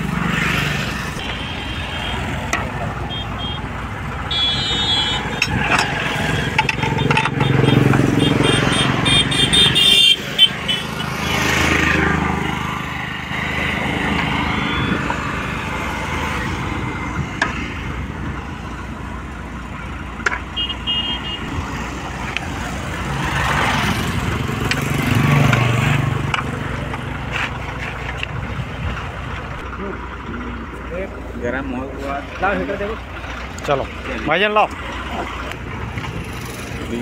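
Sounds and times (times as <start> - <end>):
engine running: 0.0 - 37.0.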